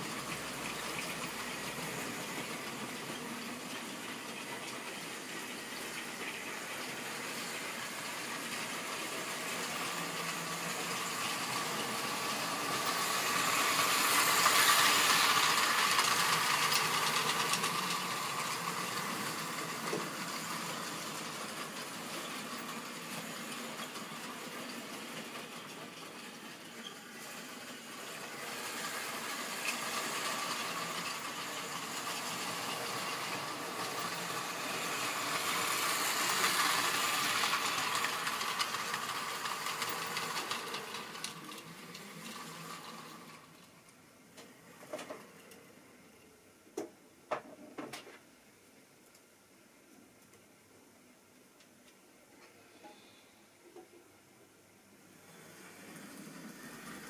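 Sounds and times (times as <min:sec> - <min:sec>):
model train motors whirring: 0:00.0 - 0:44.0, 0:55.1 - 0:57.0.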